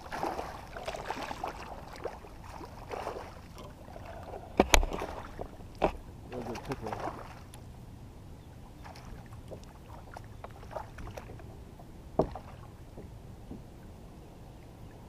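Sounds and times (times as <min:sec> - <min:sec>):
water and wind background: 0:00.0 - 0:15.0.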